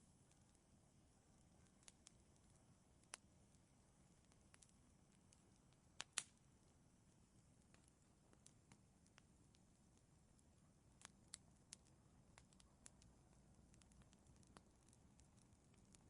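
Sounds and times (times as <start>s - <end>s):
faint low hiss: 0.0s - 16.0s
wood fire crackling: 0.0s - 16.0s.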